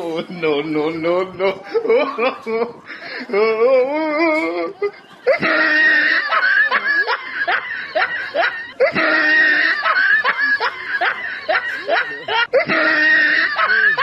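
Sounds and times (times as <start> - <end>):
cackling laughter: 1.5 - 14.0
person laughing loudly: 1.5 - 14.0.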